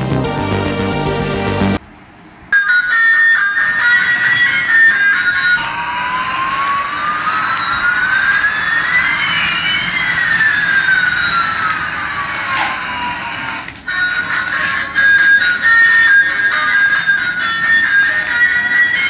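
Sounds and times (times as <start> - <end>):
whistling tones: 2.6 - 19.0.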